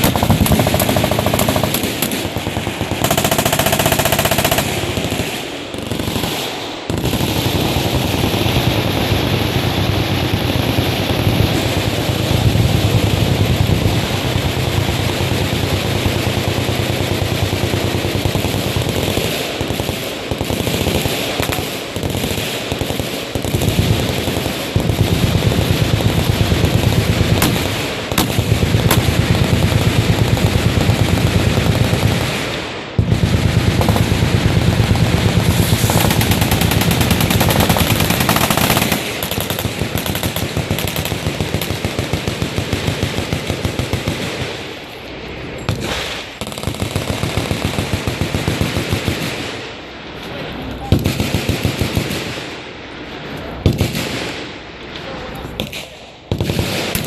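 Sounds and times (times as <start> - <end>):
automatic machine-gun fire: 0.0 - 44.8, 45.7 - 49.6, 51.0 - 52.5, 55.6 - 57.0.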